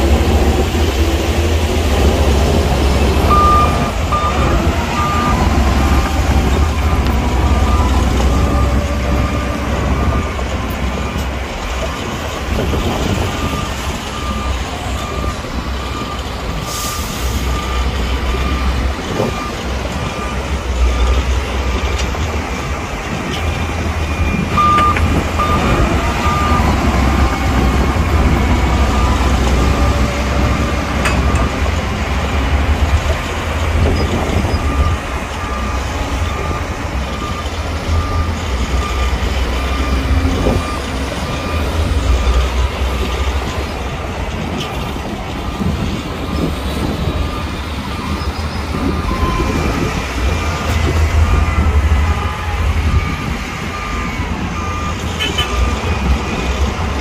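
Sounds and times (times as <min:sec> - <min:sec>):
reversing alarm beeping: 0:00.0 - 0:33.0, 0:33.8 - 0:44.6, 0:45.3 - 0:57.0
bulldozer diesel engine rumbling: 0:00.0 - 0:57.0.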